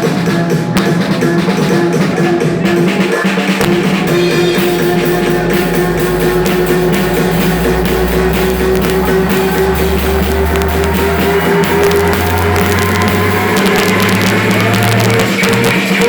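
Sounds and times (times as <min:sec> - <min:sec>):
deep bass line: 0:00.0 - 0:16.0
live band music: 0:00.0 - 0:16.0
quick drum hits: 0:00.0 - 0:16.0.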